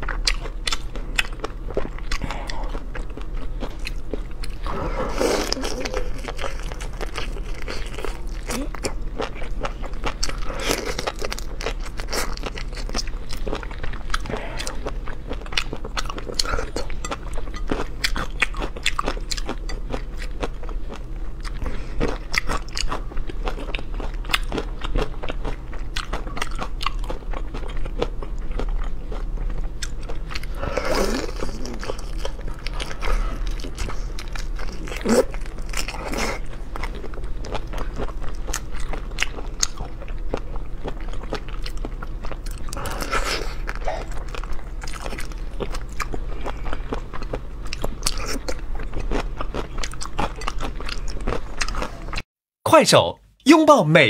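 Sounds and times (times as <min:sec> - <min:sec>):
person crunching and chewing: 0:00.0 - 0:52.2
low steady hum: 0:00.0 - 0:54.0.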